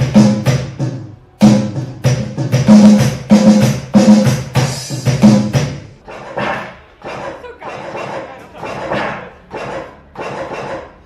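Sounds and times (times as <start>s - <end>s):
electronic drum hits: 0.0s - 11.0s.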